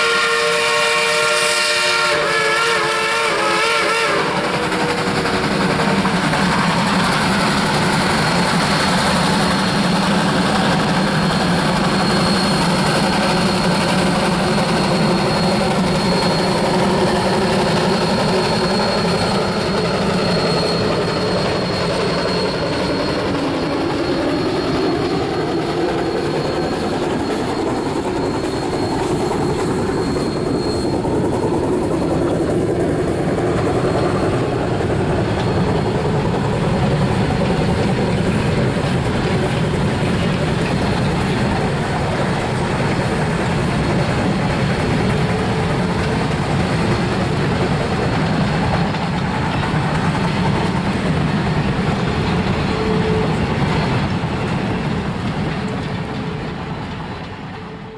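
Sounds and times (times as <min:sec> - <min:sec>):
train running on rails: 0:00.0 - 0:57.9.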